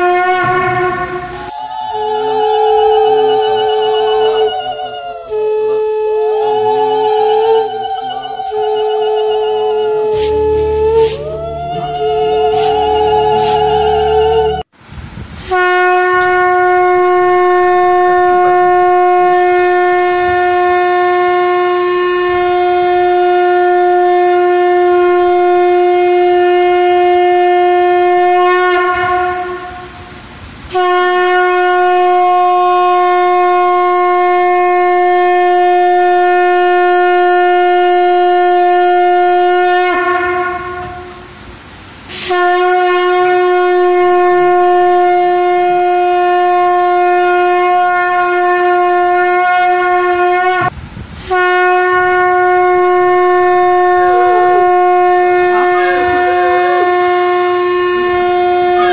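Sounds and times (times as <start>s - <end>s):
conch shell blasts: 0.0s - 14.6s, 15.4s - 30.0s, 30.7s - 41.4s, 42.1s - 58.9s.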